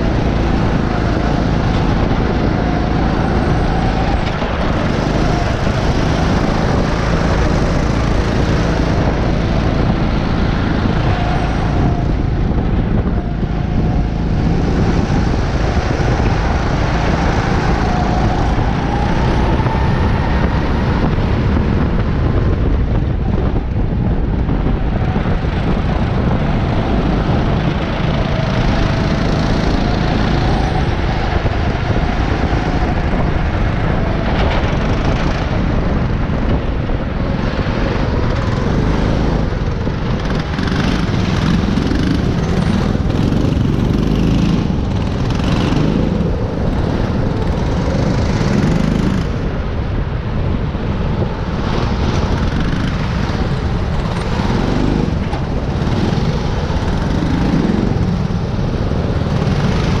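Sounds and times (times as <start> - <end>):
go-kart engine running hard: 0.0 - 60.0
other kart engines: 0.0 - 60.0
wind rushing on microphone: 0.0 - 60.0.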